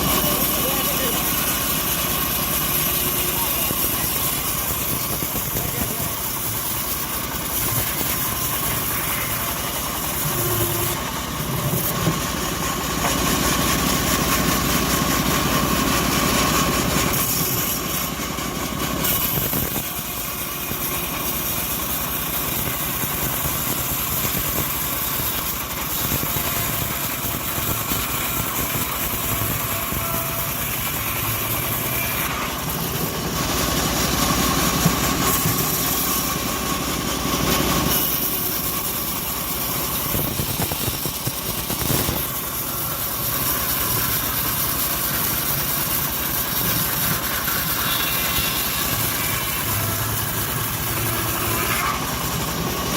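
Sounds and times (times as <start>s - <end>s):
bandsaw cutting log: 0.0s - 52.9s.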